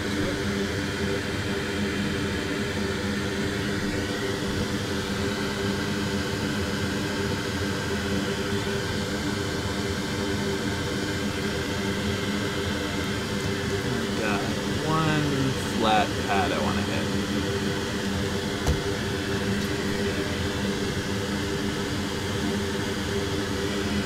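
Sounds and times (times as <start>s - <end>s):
fan whirring with low hum: 0.0s - 24.0s.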